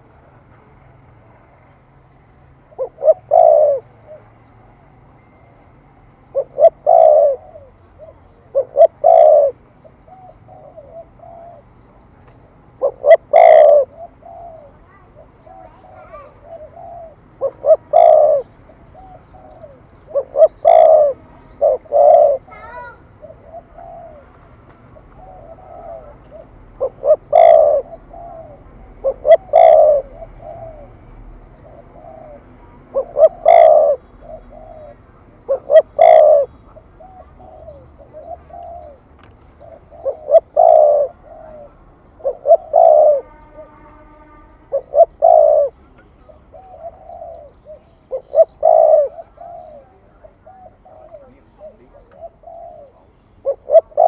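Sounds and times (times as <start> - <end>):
dove cooing: 2.7 - 4.4, 6.3 - 11.7, 12.8 - 54.0.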